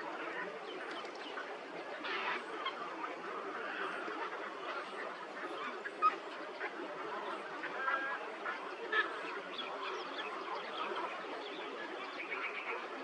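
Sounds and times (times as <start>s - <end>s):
flock of birds chattering: 0.0s - 13.0s.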